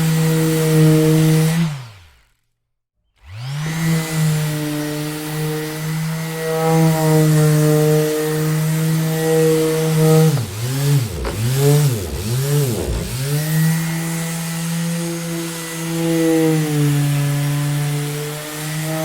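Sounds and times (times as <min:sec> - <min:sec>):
electric sander whining: 0:03.2 - 0:19.0.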